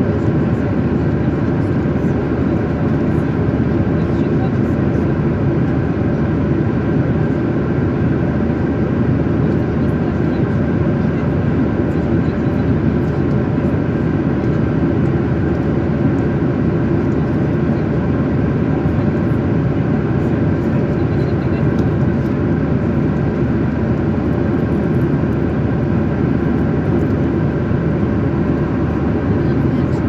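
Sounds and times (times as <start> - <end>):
jet airliner cabin noise: 0.0 - 30.0.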